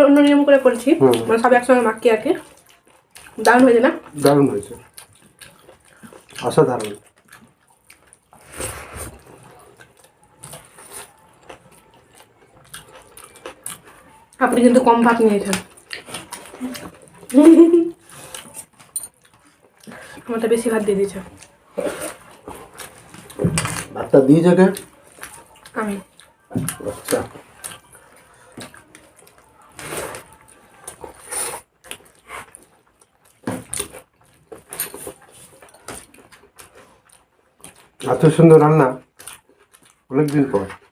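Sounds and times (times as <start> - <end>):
person chewing food: 0.1 - 40.9.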